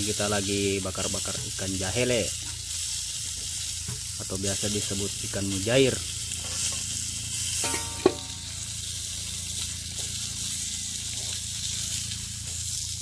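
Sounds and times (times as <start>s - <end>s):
fish sizzling on a grill plate: 0.0s - 13.0s.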